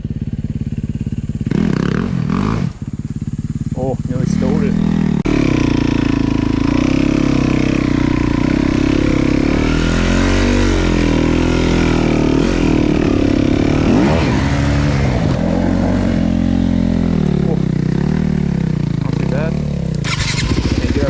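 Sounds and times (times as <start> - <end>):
dirt bike motor revving: 0.1 - 21.0.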